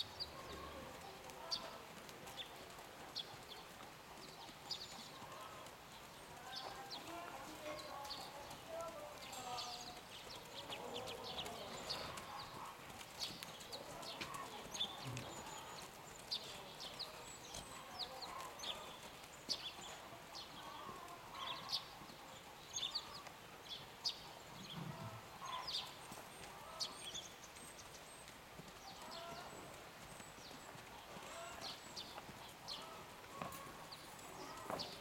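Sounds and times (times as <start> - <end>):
hoofbeats on sand: 0.0 - 35.0.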